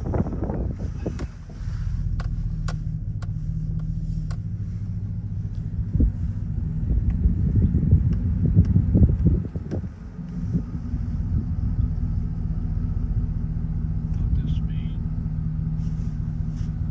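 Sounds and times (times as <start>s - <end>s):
vehicle engine humming: 0.0s - 16.9s.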